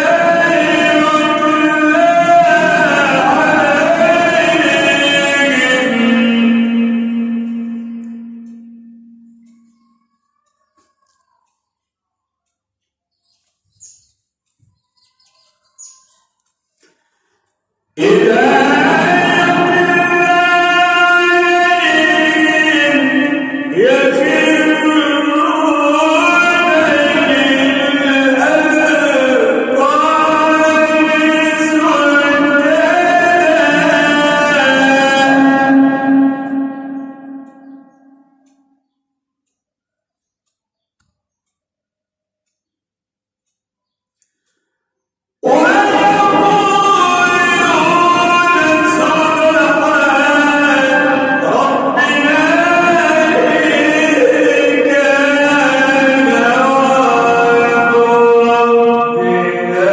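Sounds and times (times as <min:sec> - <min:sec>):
man chanting melodically: 0:00.0 - 0:16.5, 0:17.9 - 0:41.0, 0:45.4 - 0:59.9.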